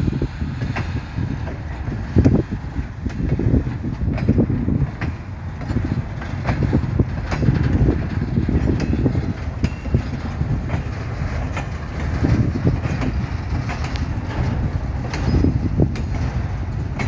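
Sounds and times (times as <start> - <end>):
train wheels rumbling on rails: 0.0 - 17.0
wheels clanking over rail joints: 0.0 - 17.0.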